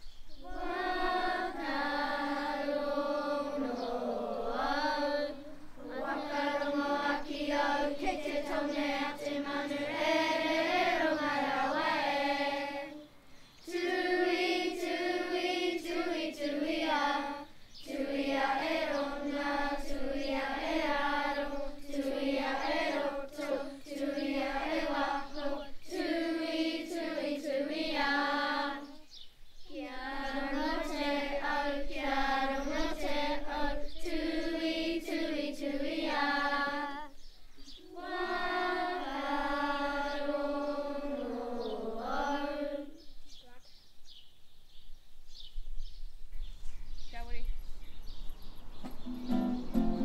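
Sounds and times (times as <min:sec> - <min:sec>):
children singing in unison: 0:00.3 - 0:43.2.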